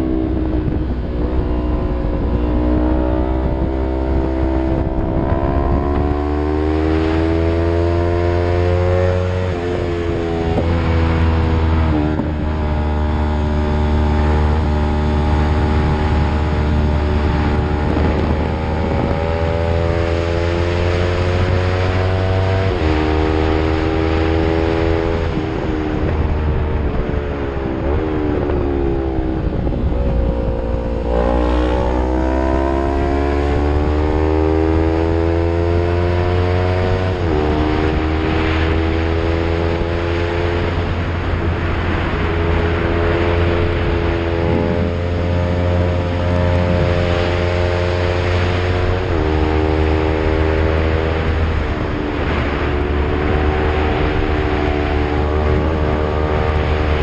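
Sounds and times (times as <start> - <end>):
motorcycle engine accelerating: 0.0 - 57.0
wind rumble on microphone: 0.0 - 57.0.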